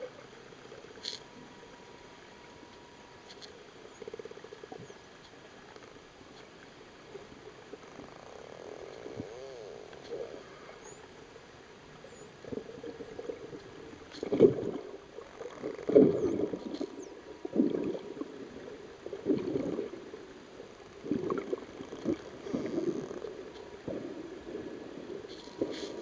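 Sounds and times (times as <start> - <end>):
water swishing underwater: 0.0 - 26.0.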